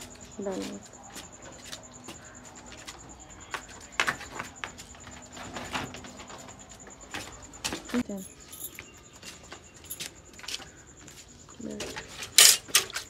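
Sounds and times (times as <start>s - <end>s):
hooves on brick floor: 0.0s - 13.0s.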